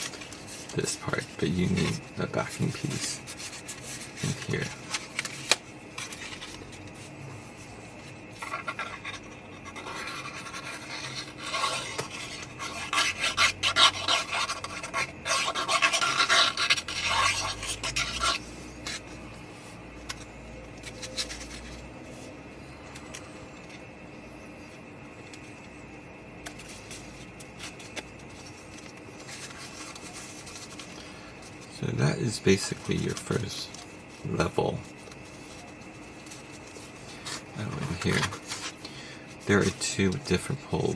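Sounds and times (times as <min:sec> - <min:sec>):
cardstock rubbing and scraping: 0:00.0 - 0:22.3, 0:26.4 - 0:38.8
faint steady hum: 0:00.0 - 0:40.9.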